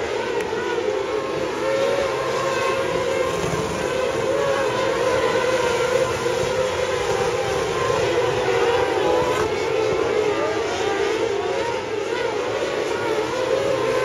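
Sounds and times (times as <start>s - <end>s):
racing car engines droning: 0.0s - 14.0s.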